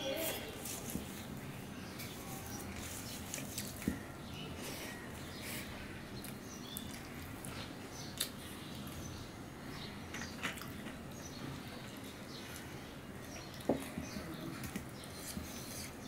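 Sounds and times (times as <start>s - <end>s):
soft chewing: 0.2s - 9.1s, 10.2s - 16.0s.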